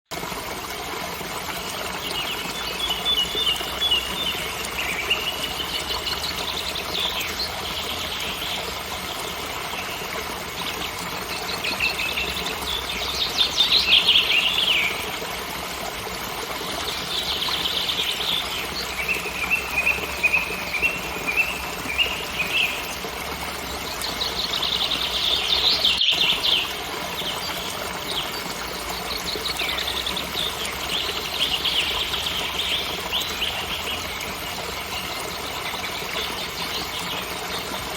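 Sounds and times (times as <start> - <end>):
waterfall rushing: 1.0 - 37.0
songbirds trilling: 1.6 - 15.5, 16.5 - 37.9.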